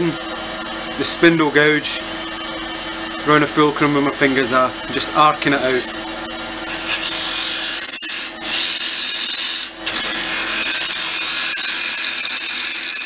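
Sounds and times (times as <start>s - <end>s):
lathe humming: 0.0s - 13.0s.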